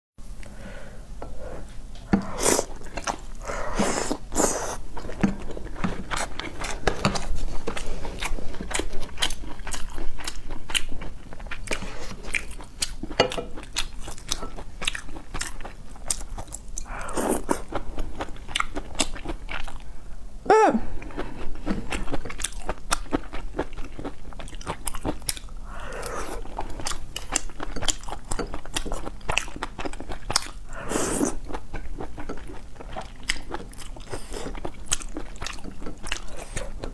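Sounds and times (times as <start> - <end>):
person chewing crunchy food: 2.1 - 19.9, 21.0 - 36.9.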